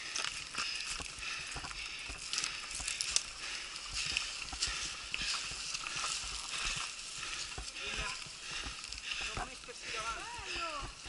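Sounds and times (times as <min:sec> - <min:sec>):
bike tyres crunching on gravel: 0:00.0 - 0:11.0.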